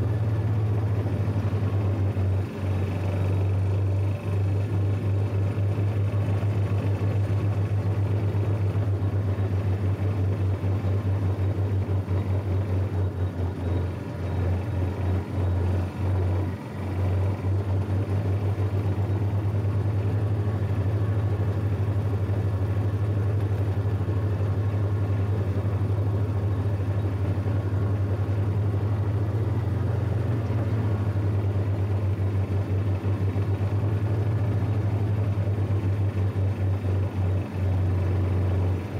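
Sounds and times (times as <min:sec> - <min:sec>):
lawn tractor engine humming: 0:00.0 - 0:38.9.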